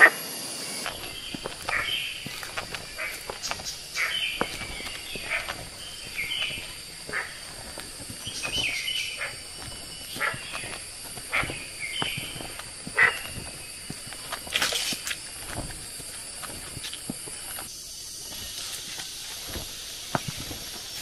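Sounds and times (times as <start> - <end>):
steady high whine: 0.0 - 21.0.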